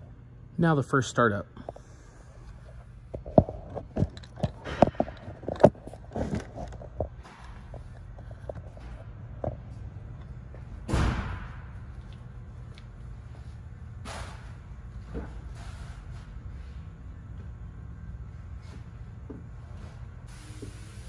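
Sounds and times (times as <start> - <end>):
low shop hum: 0.0 - 21.0.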